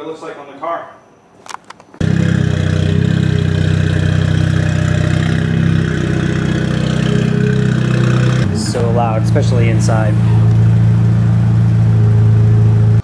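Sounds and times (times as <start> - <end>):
car engine low drone: 2.0 - 13.0.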